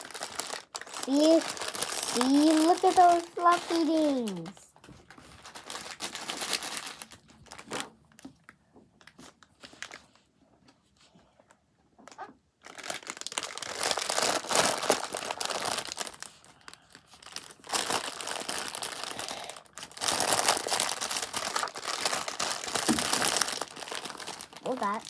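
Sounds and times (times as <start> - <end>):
crinkling rustling handling noise: 0.0 - 11.1, 12.1 - 25.0.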